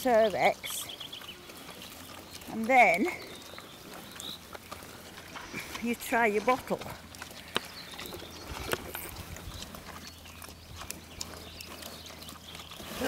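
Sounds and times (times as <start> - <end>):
low steady background noise: 0.0 - 13.0
pigs moving about: 0.0 - 13.0.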